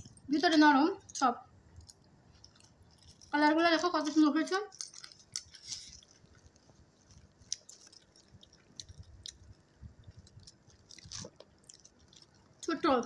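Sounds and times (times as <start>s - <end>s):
crunching fried fritters: 0.0s - 13.0s
chewing: 1.1s - 12.8s.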